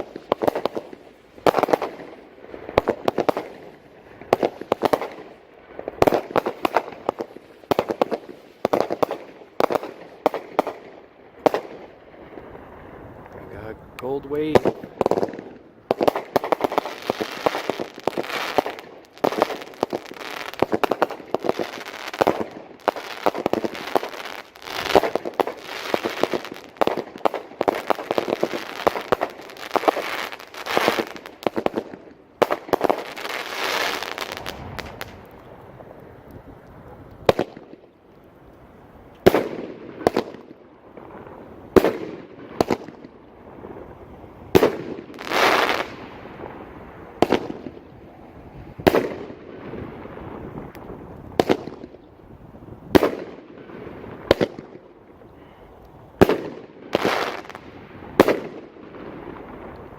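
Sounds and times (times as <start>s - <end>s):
firework cake shots and crackling: 0.0s - 12.6s, 13.3s - 36.1s, 36.9s - 37.9s, 39.2s - 47.9s, 48.7s - 52.1s, 52.9s - 55.6s, 56.2s - 59.9s.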